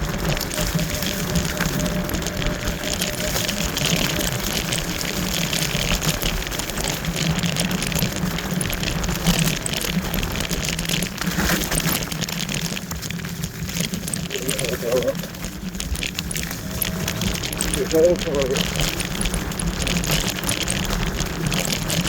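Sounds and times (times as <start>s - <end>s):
wind and tyre noise: 0.0s - 22.0s.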